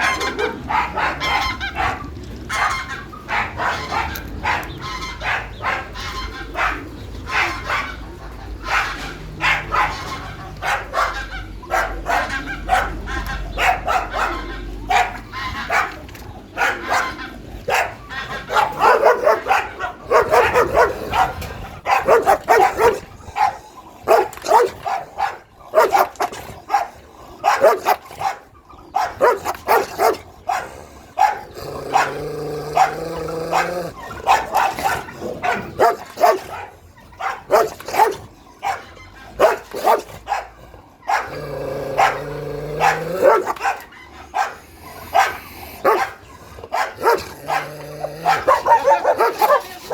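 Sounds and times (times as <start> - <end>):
dogs barking: 0.0 - 49.9.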